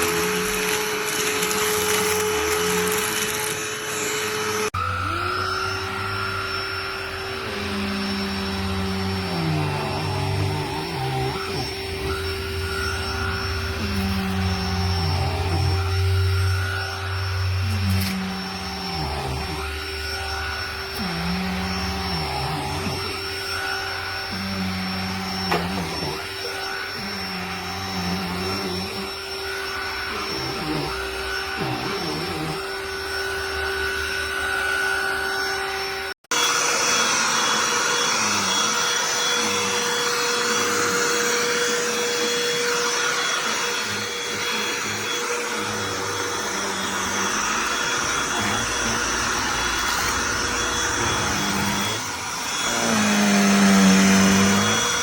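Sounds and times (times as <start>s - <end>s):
handheld vacuum cleaner whining: 0.0s - 55.0s.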